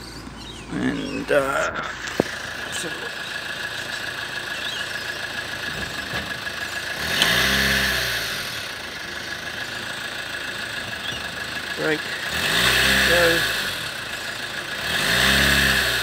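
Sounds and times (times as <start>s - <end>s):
diesel engine idling and revving: 0.0s - 16.0s.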